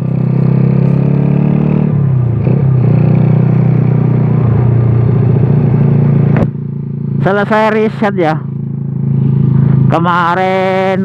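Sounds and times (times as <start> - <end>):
motorcycle engine deep exhaust: 0.0 - 11.0.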